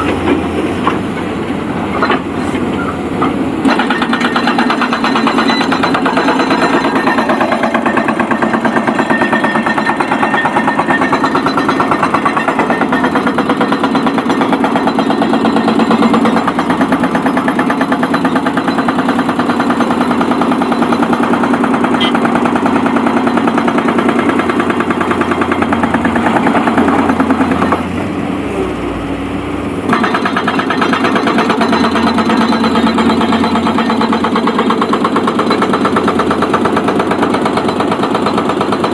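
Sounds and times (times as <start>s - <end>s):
excavator diesel engine rattling: 0.0s - 38.9s.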